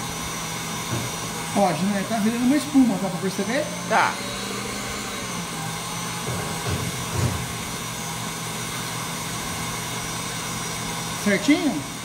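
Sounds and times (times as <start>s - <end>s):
stand mixer motor hum: 0.0s - 12.0s.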